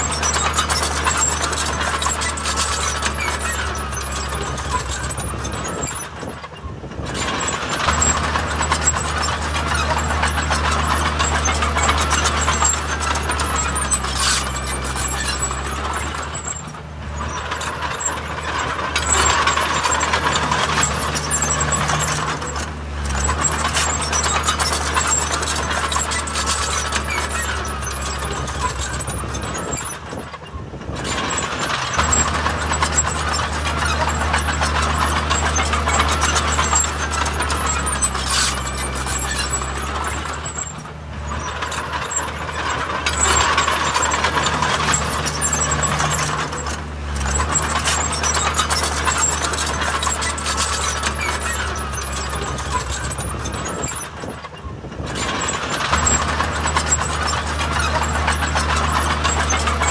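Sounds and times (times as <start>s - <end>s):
diesel construction machinery running: 0.0s - 59.9s.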